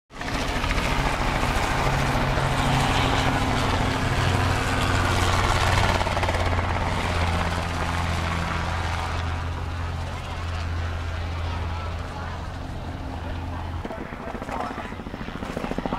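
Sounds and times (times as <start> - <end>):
helicopter rotor chop: 0.1 - 15.9.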